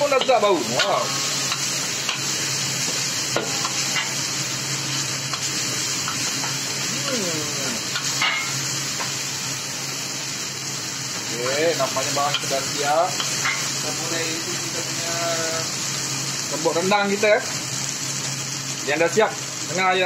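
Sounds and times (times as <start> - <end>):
paste sizzling in hot oil: 0.0 - 20.0.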